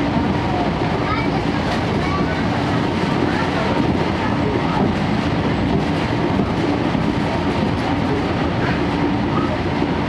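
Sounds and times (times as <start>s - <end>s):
train wheels on rail: 0.0s - 10.0s.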